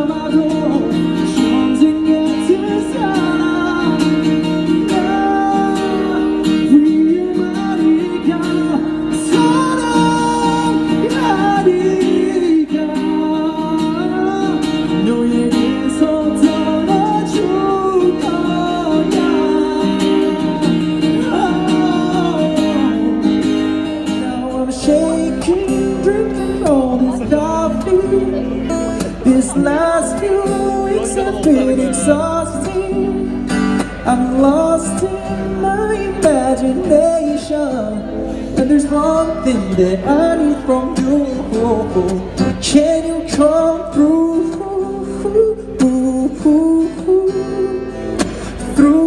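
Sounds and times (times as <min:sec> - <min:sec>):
man singing: 0:00.0 - 0:49.0
strummed acoustic guitar: 0:00.0 - 0:49.0.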